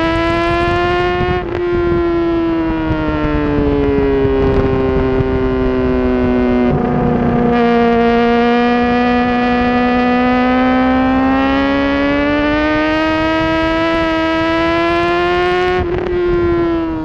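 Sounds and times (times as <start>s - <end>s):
motorcycle engine at high revs: 0.0s - 17.0s
wind rush: 0.0s - 17.0s.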